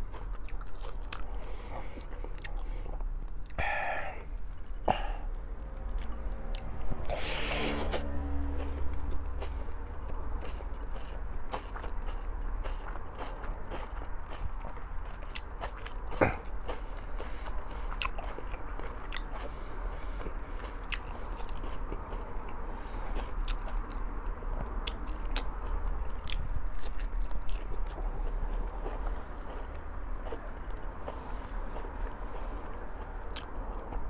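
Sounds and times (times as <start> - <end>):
chewing with wet mouth clicks: 0.0 - 5.1, 8.6 - 34.0
steady low hum: 0.0 - 34.0.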